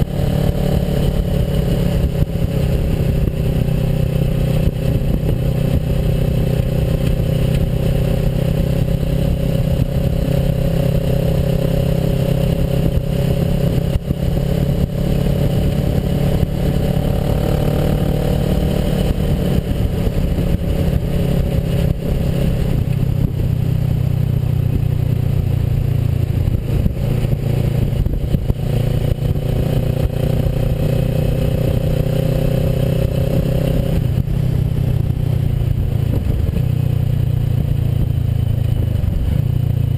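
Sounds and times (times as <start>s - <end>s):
motorcycle engine running: 0.0s - 39.9s
rough road noise: 0.0s - 39.9s.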